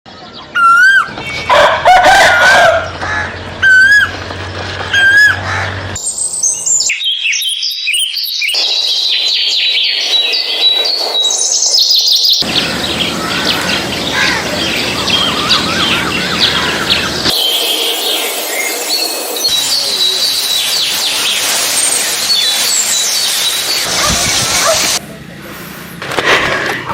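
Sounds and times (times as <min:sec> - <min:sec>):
loud bird call: 0:00.1 - 0:06.2, 0:06.9 - 0:25.0
small birds twittering: 0:02.8 - 0:25.0.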